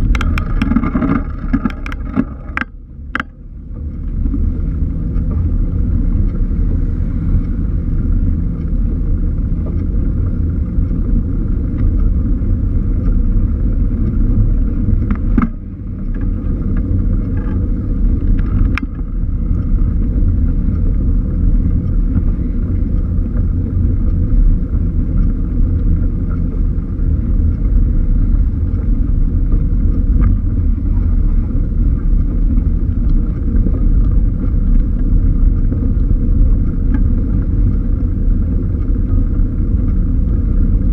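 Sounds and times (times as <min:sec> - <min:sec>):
bicycle road noise: 0:00.0 - 0:40.9
wind rumble on microphone: 0:00.0 - 0:40.9.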